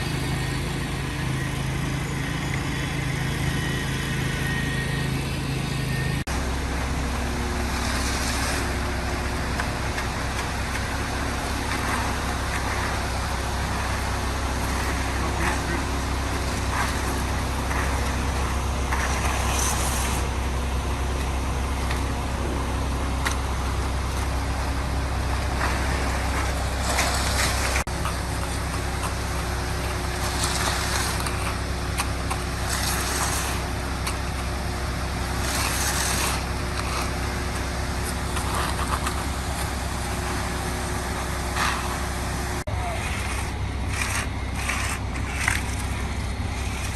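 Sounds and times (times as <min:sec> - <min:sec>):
diesel engine rumbling: 0:00.0 - 0:46.9.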